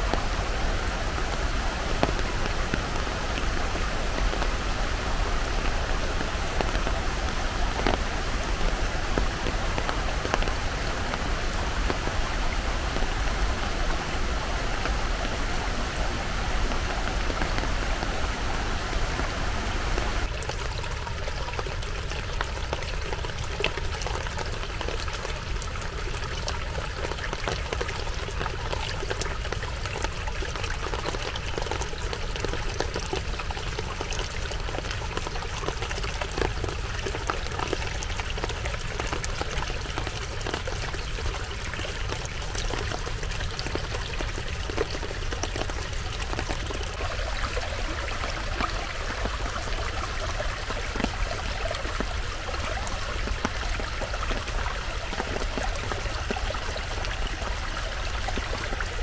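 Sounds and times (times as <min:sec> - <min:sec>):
creek water rushing: 0:00.0 - 0:59.0
rain falling: 0:00.0 - 0:59.0.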